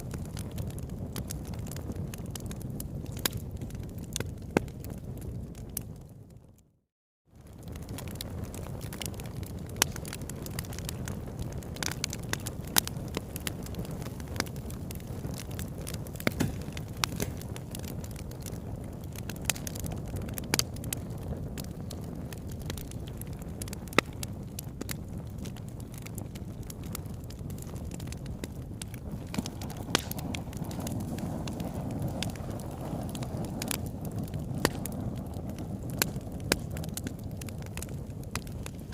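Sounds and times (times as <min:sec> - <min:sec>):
campfire crackling: 0:00.0 - 0:06.6, 0:07.4 - 0:38.9.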